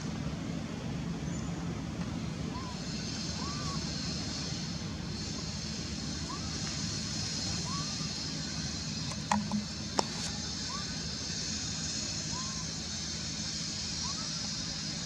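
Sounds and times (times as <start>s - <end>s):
high hiss: 1.6s - 15.0s.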